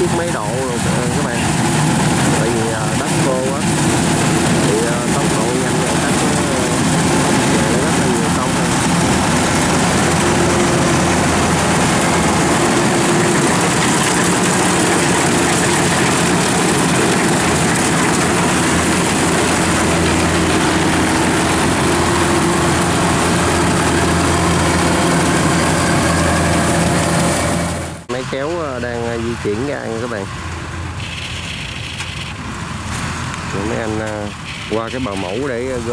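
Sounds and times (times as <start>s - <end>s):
cutting and threshing machinery: 0.0s - 30.3s
combine harvester engine drone: 0.0s - 35.9s.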